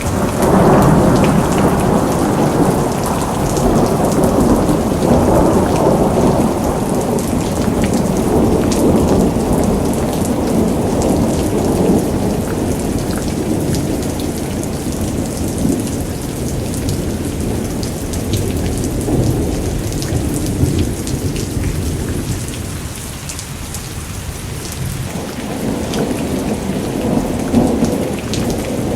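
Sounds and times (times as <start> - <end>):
heavy rain falling: 0.0 - 28.9
low rumble of thunder: 0.0 - 28.9.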